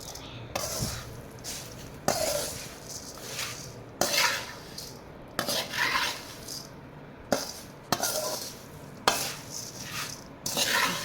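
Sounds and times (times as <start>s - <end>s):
puffed rice rustling scrape: 0.1s - 6.7s, 7.3s - 11.0s.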